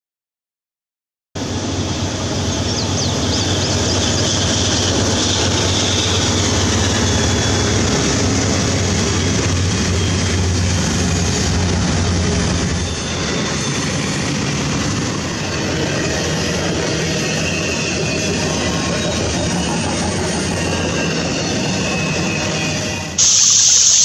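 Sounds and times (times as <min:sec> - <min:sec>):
diesel locomotive engine drone: 0:01.4 - 0:24.0
train wheels rumbling on rails: 0:01.4 - 0:24.0.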